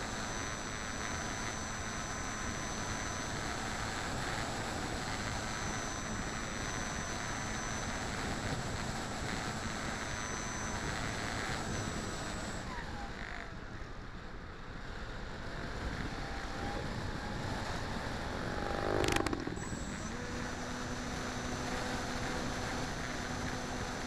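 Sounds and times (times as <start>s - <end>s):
model plane engine running: 0.0s - 13.6s, 15.2s - 24.0s.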